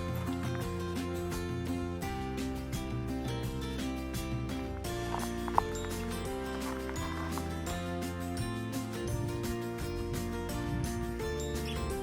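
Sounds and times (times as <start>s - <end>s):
instrumental string music: 0.0s - 12.0s
steady bass: 0.0s - 12.0s.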